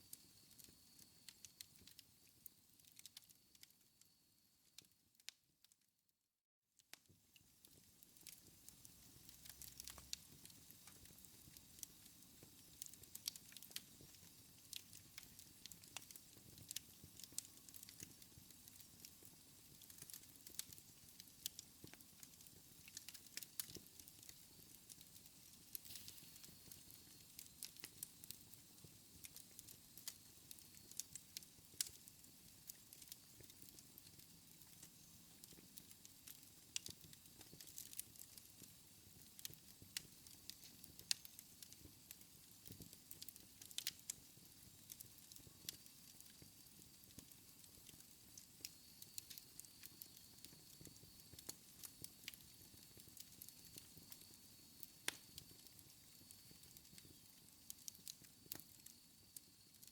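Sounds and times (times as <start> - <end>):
wood fire crackling: 0.0 - 5.3, 7.6 - 59.9.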